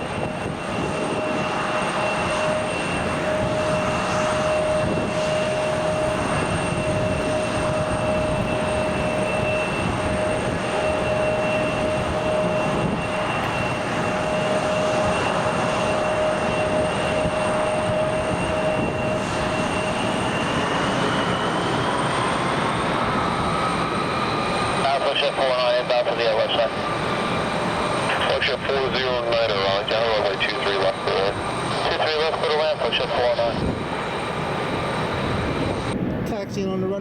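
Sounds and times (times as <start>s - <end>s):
jet engine whine: 0.0s - 37.0s
jet engines roaring: 0.0s - 37.0s.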